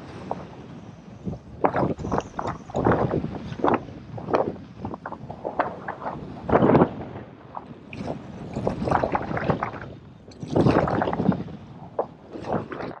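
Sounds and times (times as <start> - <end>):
water splashing and gurgling: 0.0 - 13.0
wind buffeting microphone: 0.0 - 13.0.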